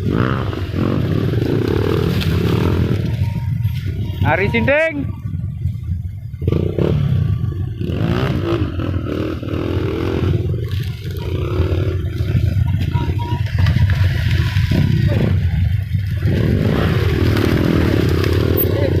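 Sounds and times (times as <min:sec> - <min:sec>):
large vehicle engines revving: 0:00.0 - 0:19.0
vehicle rattling: 0:00.0 - 0:19.0.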